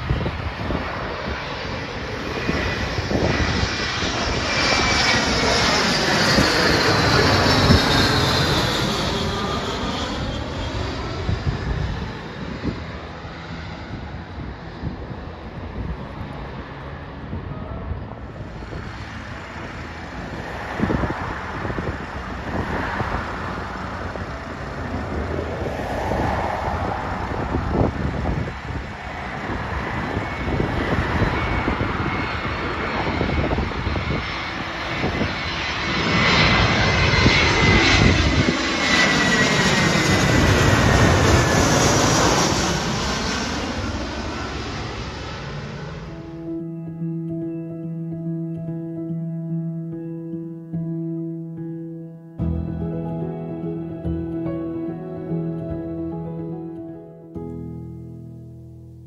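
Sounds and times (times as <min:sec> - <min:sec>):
high jet engine whine: 0:00.0 - 0:49.2, 0:51.6 - 0:57.0
jet airliner flying overhead: 0:00.0 - 0:57.4.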